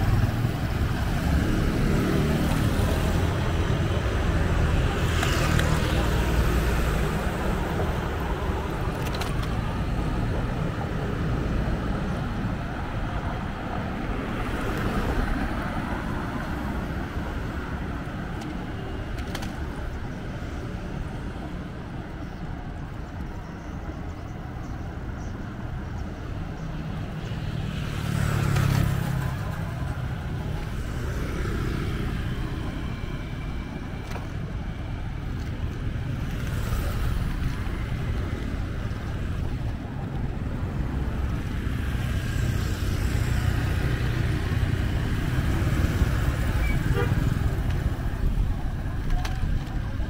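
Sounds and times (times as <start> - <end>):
engine and tyre rumble: 0.0 - 50.0.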